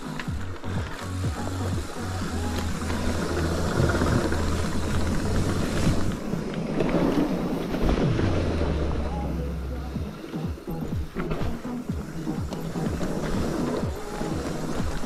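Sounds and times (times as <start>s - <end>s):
tyre rumble on dirt trail: 0.0s - 15.0s.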